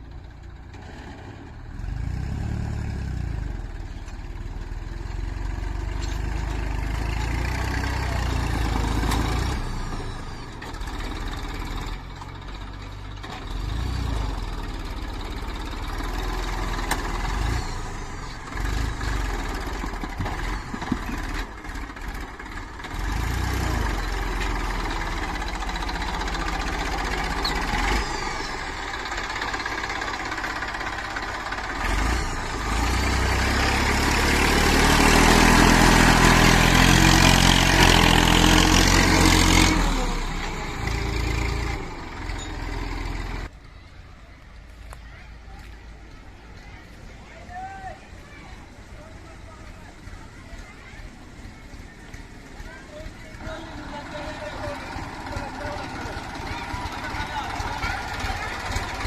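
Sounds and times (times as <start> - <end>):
diesel machinery engine running: 0.0 - 43.6, 48.6 - 59.0.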